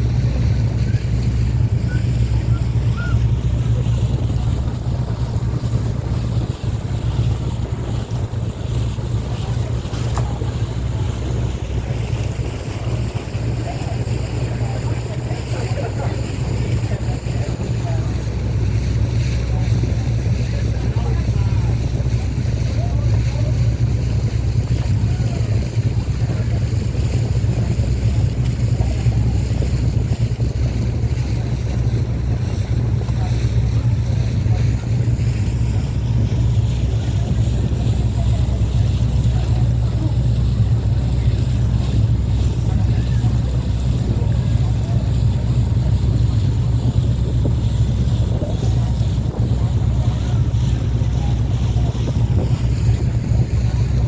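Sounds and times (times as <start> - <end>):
boat engine humming: 0.0 - 54.0
water rushing along hull: 0.0 - 54.0
wind on microphone: 0.0 - 54.0.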